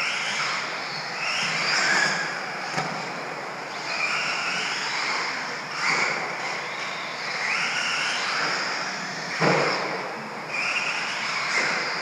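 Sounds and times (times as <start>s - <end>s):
rc car motor whine: 0.0s - 12.0s.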